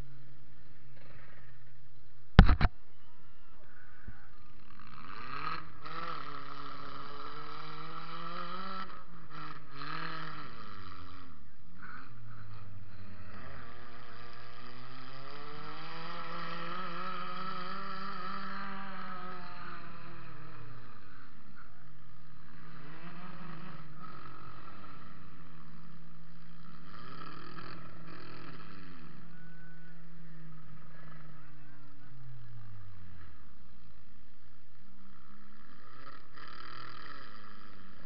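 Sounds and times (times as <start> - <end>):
car engine revving: 4.2 - 38.0.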